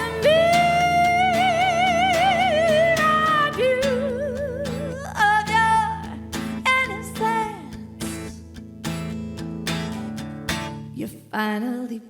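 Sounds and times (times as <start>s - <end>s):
strummed acoustic guitar: 0.0s - 11.1s.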